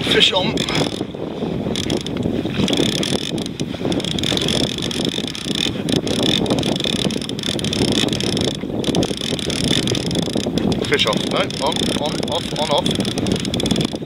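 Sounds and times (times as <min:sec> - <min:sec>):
wind buffeting microphone: 0:00.0 - 0:14.0
fishing reel clicking whir: 0:00.2 - 0:14.0.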